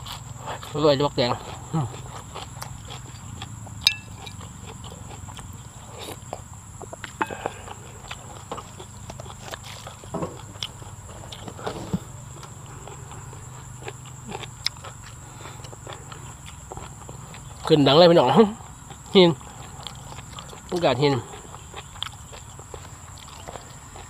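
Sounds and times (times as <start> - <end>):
man chewing and lip smacking: 0.0 - 24.0.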